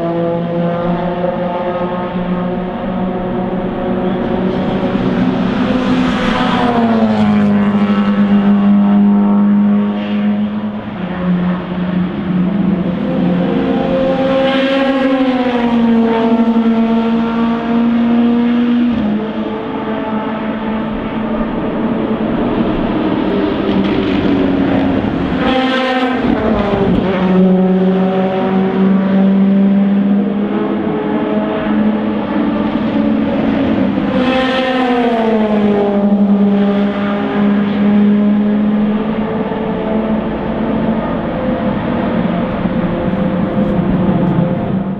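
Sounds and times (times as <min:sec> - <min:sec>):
race car engine passing: 0:00.0 - 0:44.9.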